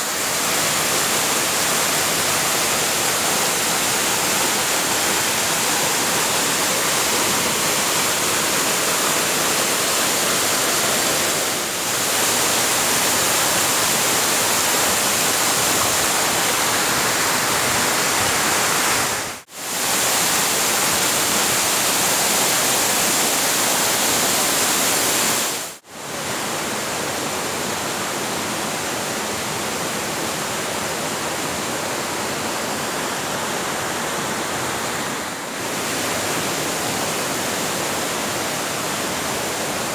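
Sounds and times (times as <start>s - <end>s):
river water and waterfalls rushing: 0.0s - 39.9s.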